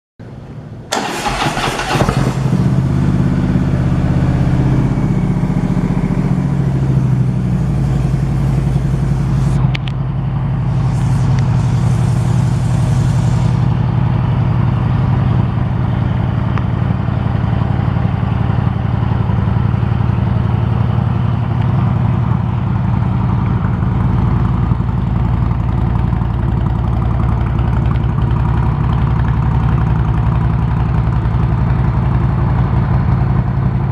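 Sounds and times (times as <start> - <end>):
motorcycle engine starting and idling: 0.9 - 33.9.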